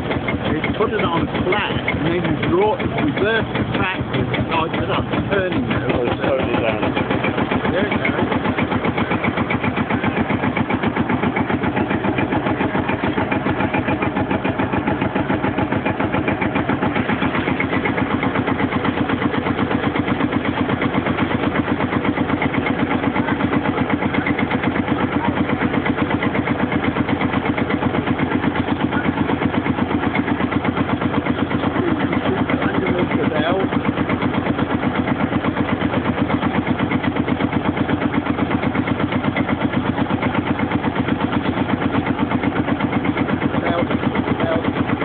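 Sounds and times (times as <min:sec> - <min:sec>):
diesel engine thumping: 0:00.0 - 0:45.0.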